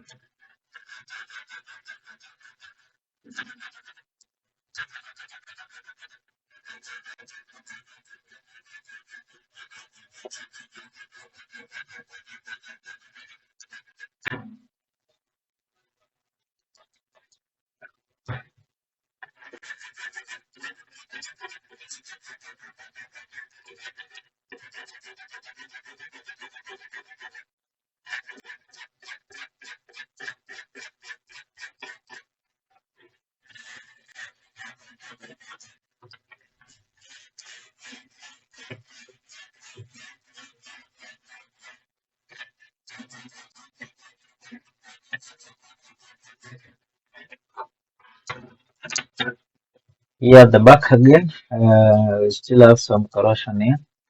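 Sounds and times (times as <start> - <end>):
brush scrubbing circuit board: 0.0 - 4.1, 4.7 - 14.4, 19.2 - 49.5.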